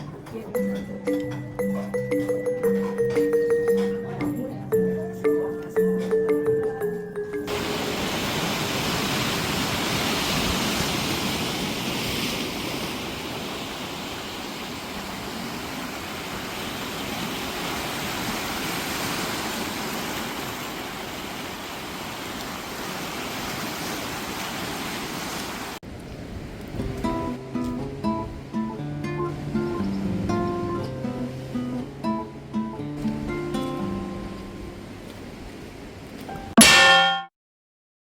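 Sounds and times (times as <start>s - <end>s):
rushing water: 4.7s - 36.9s.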